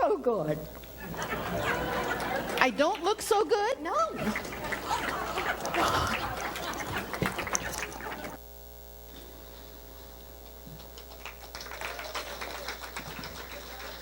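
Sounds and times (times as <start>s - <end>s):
electrical mains hum: 0.0s - 14.0s
room noise and clicks: 0.5s - 8.4s, 10.0s - 14.0s.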